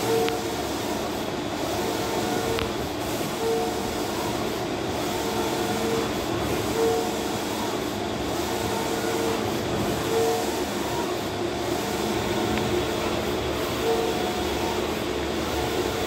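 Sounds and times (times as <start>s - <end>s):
printer carriage motor whine: 0.0s - 16.0s
printer mechanical running noise: 0.0s - 16.0s.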